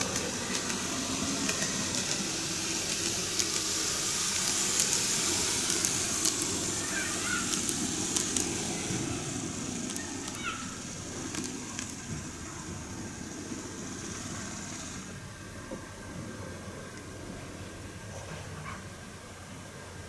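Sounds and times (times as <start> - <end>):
model train whirring hiss: 0.0 - 20.0.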